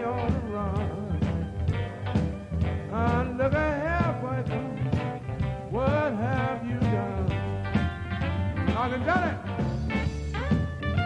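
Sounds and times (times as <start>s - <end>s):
upbeat song with bass beat: 0.0s - 11.0s.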